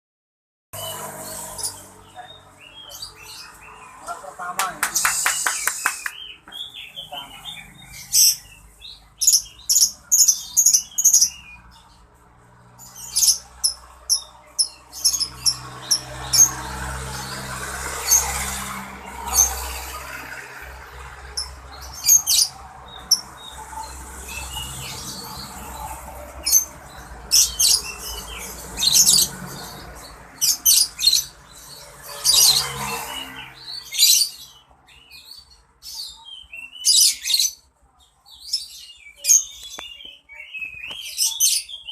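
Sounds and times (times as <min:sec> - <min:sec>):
songbird chirping and trilling: 0:00.8 - 0:41.9.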